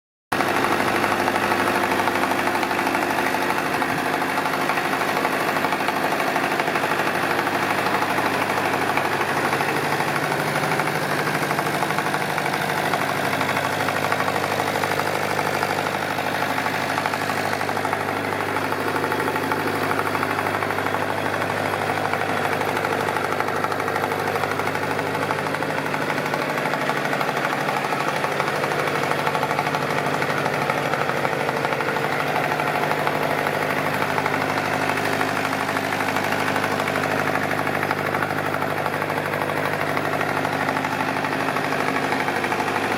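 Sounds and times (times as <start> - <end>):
tractor engine idling: 0.4 - 42.9.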